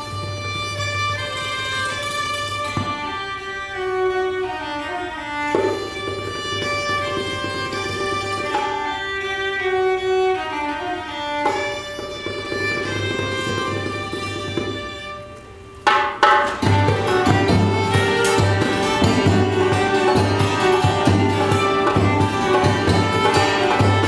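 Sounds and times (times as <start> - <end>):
violin melody: 0.0 - 24.0.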